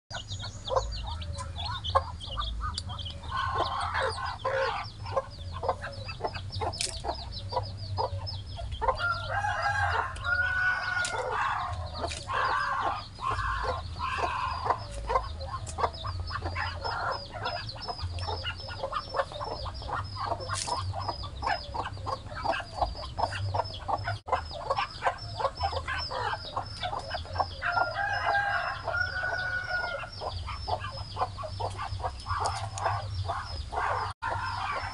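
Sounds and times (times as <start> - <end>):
chicks peeping: 0.1 - 34.9
hen calling: 0.7 - 34.9.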